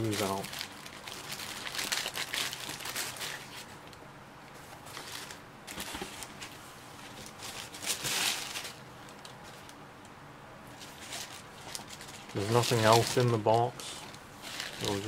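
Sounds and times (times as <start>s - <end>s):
tissue paper rustling in shoebox: 0.0s - 3.7s, 4.8s - 9.6s, 10.7s - 15.0s.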